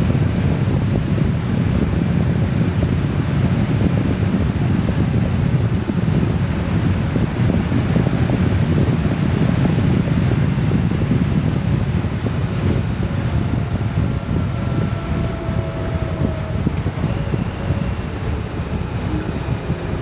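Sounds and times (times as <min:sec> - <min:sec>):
faint steady whine: 0:00.0 - 0:20.0
motorcycle engine and road noise: 0:00.0 - 0:20.0
wind buffeting microphone: 0:00.0 - 0:20.0.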